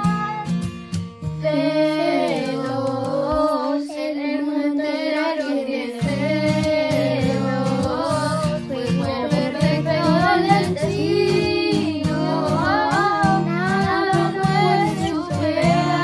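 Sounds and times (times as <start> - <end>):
guitar accompaniment: 0.0 - 4.2, 5.0 - 16.0
children singing: 1.4 - 16.0.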